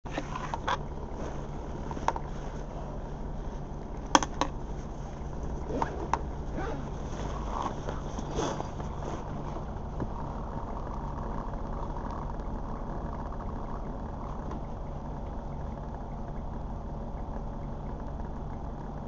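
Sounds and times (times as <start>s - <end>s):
small clicks and rattles: 0.1s - 19.0s.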